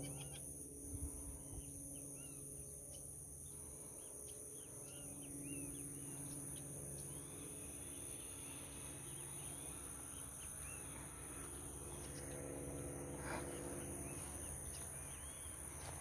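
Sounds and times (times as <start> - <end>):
faint low hum: 0.0 - 16.0
high-pitched insect drone: 0.0 - 16.0.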